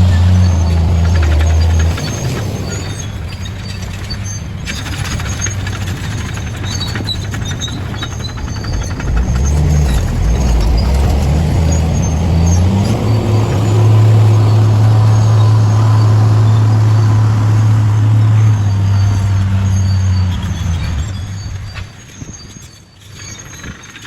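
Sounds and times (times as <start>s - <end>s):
bulldozer diesel engine under load: 0.0s - 22.5s
high squeals: 0.0s - 23.8s
fast machine clatter: 0.0s - 24.0s.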